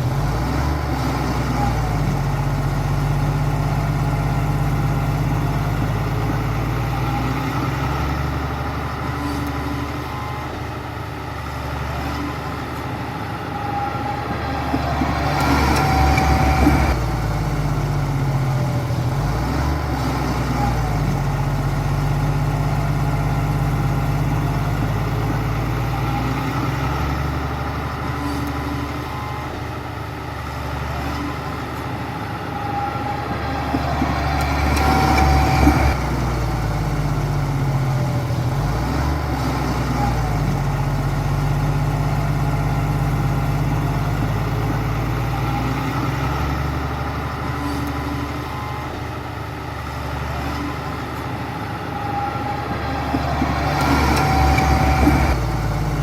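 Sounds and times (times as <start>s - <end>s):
engine rattle: 0.0s - 56.0s
heavy diesel engine running: 0.0s - 56.0s.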